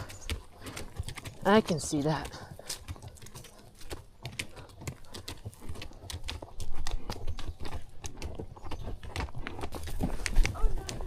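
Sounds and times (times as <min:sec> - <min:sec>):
horse hooves clopping: 0:00.0 - 0:11.0.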